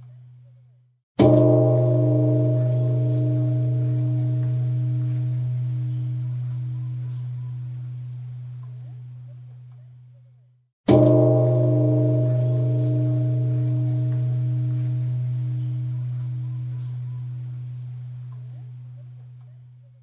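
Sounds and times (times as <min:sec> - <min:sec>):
large temple bell ringing: 0:01.2 - 0:09.2, 0:10.9 - 0:19.8.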